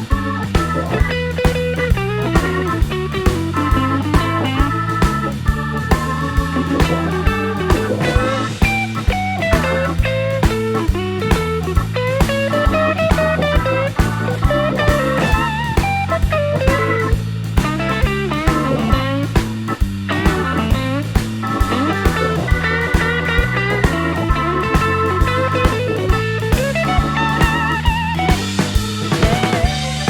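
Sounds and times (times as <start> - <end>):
bending guitar lead: 0.0 - 30.0
repeating bass line: 0.0 - 30.0
steady drum beat: 0.0 - 30.0.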